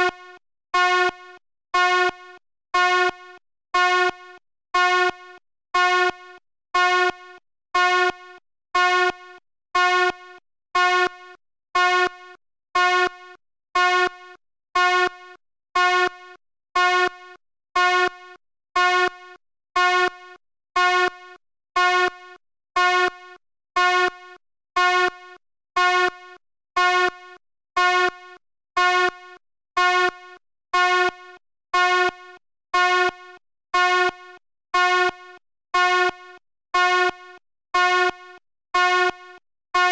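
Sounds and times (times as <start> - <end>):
fire alarm horn blasts: 0.0 - 39.9.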